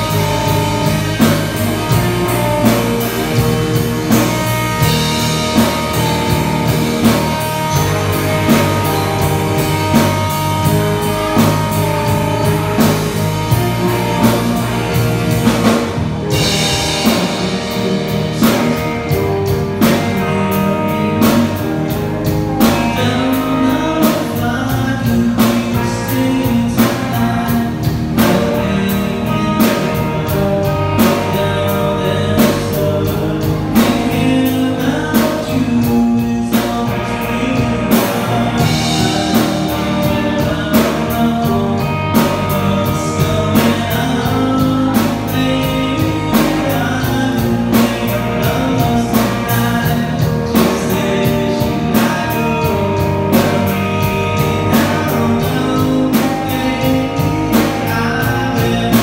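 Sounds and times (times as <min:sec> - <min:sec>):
bass guitar: 0:00.0 - 0:59.0
drum kit beat: 0:00.0 - 0:59.0
electric guitar: 0:00.0 - 0:59.0
person singing: 0:00.0 - 0:59.0
rock band playing live: 0:00.0 - 0:59.0.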